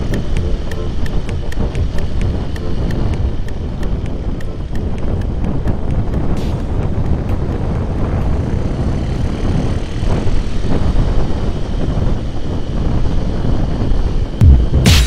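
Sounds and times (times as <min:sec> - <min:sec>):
wind rushing over microphone: 0:00.0 - 0:14.9
motorcycle engine rumble: 0:00.0 - 0:15.0.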